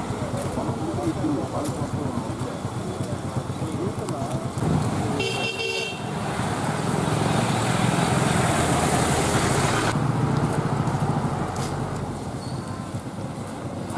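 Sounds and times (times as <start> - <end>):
vehicle engine rumble: 0.0 - 13.9.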